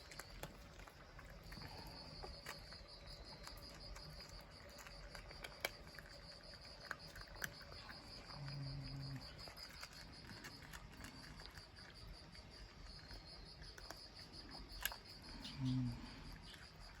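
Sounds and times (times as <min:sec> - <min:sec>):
insect trilling: 0:00.0 - 0:17.0.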